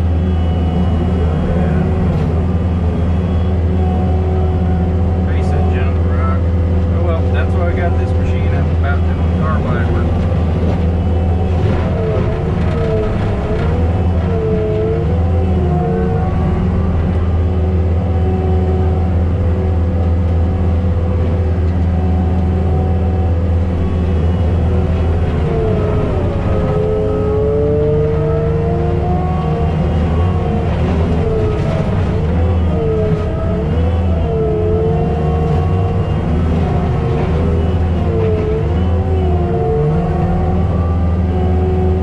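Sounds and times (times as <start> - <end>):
diesel engine at high revs: 0.0 - 42.0
mulcher whine: 0.0 - 42.0.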